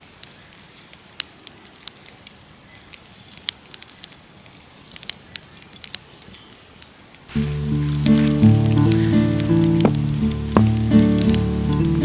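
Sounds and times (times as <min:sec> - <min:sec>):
campfire crackling: 0:00.0 - 0:12.0
faint steady hiss: 0:00.0 - 0:12.0
fire popping: 0:00.0 - 0:12.0.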